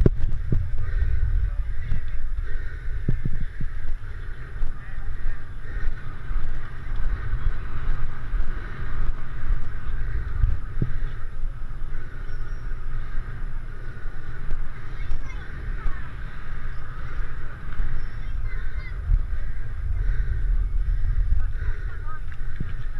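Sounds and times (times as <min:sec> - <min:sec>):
skate wheels rolling on asphalt: 0:00.0 - 0:22.9
wind buffeting microphone: 0:00.0 - 0:22.9.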